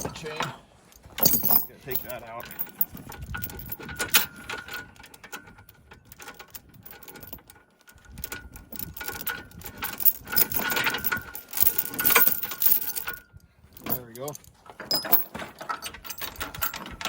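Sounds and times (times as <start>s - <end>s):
chain links clinking and rattling: 0.0s - 17.0s.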